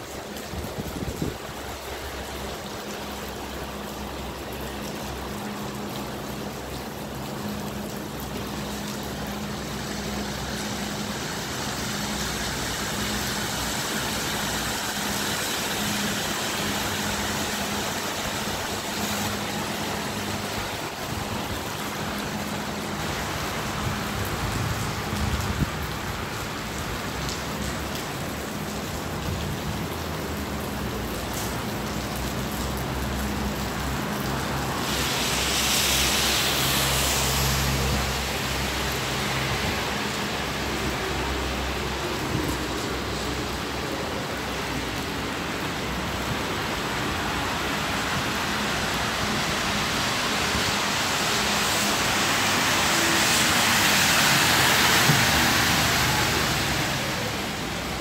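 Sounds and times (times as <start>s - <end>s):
low traffic hum: 0.0s - 58.0s
rain on wet paving: 0.0s - 58.0s.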